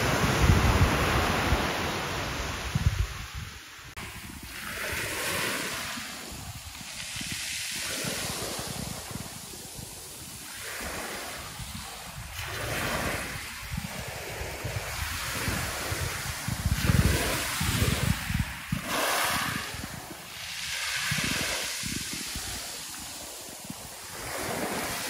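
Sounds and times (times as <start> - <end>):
small waves breaking on shore: 0.0 - 25.0
wind buffeting microphone: 0.0 - 25.0.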